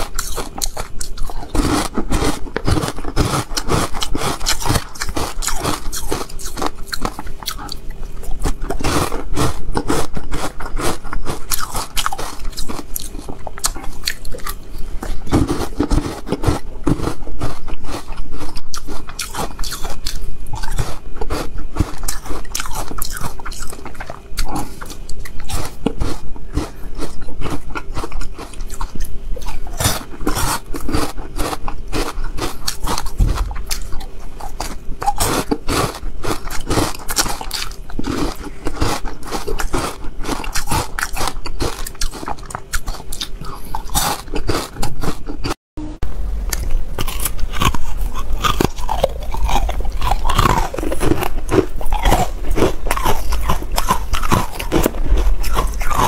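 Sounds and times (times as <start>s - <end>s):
ice crunching and chewing: 0.0s - 45.6s, 46.5s - 56.0s.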